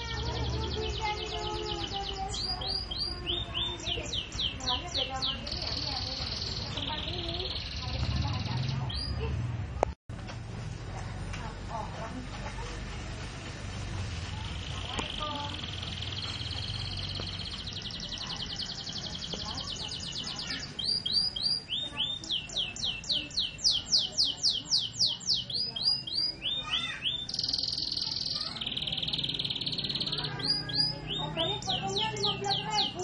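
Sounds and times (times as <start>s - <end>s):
canary singing: 0.0s - 9.2s, 14.4s - 33.0s.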